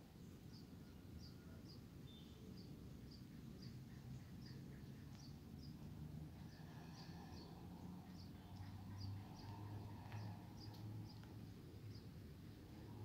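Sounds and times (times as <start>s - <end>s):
small bird chirping: 0.5s - 12.9s.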